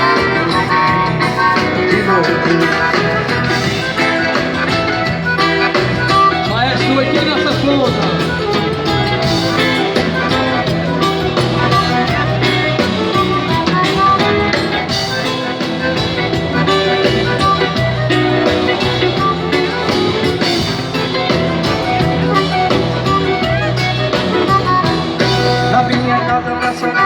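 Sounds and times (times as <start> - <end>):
live band playing instrumental: 0.0 - 27.0.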